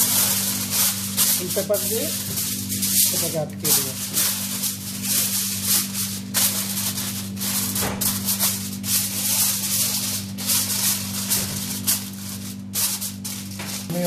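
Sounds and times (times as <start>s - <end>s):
aluminium foil crinkling: 0.0s - 14.0s
steady low hum: 0.0s - 14.0s.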